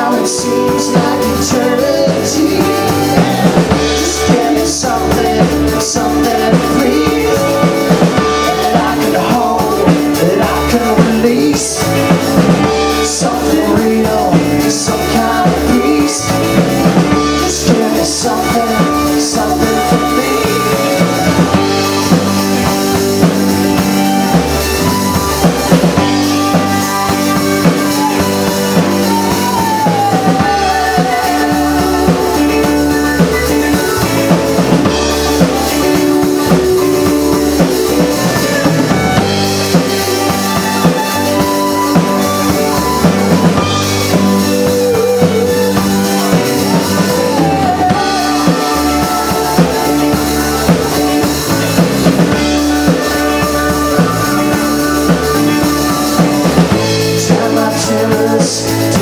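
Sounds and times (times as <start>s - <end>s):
lead guitar bending notes: 0.0s - 57.7s
rock band playing: 0.0s - 59.0s.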